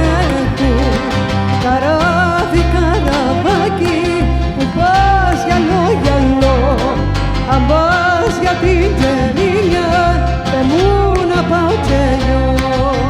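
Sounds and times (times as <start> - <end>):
plucked lute: 0.0 - 13.0
steady bass line: 0.0 - 13.0.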